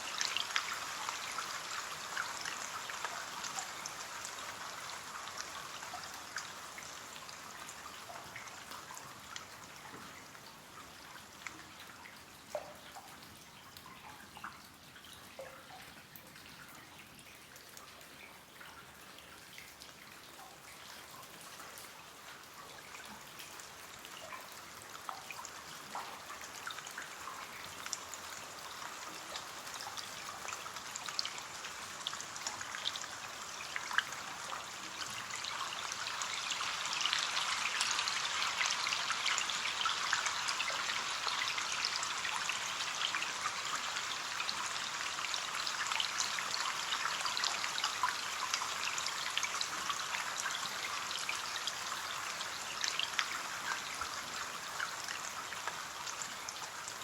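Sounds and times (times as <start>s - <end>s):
rain pattering on a window: 0.0s - 57.0s.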